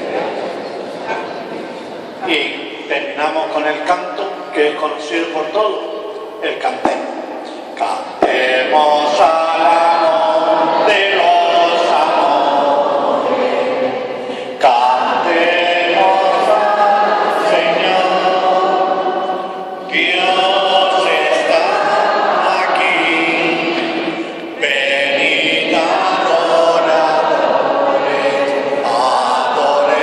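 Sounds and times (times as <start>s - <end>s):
congregation singing a hymn: 0.0s - 30.0s.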